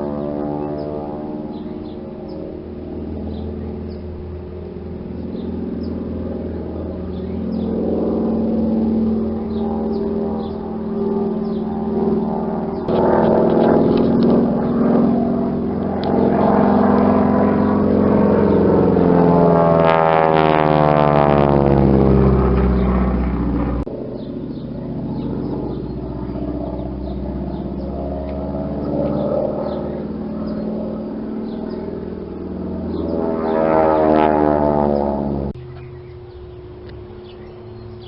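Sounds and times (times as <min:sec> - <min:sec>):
plane flying past: 0:00.0 - 0:38.0
steady engine drone: 0:00.0 - 0:38.0.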